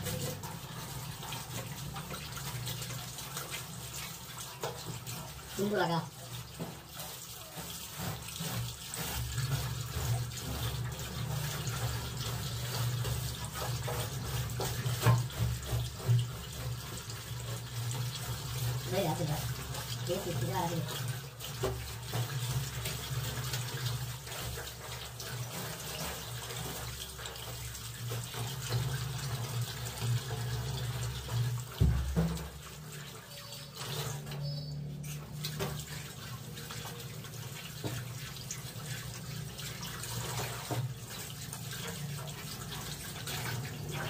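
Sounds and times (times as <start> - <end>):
tap water running into sink: 0.0 - 44.0.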